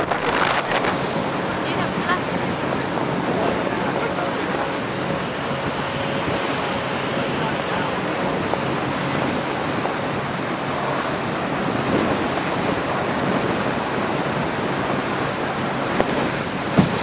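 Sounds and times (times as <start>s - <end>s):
water rushing past boat: 0.0s - 17.0s
wind on microphone: 0.0s - 17.0s.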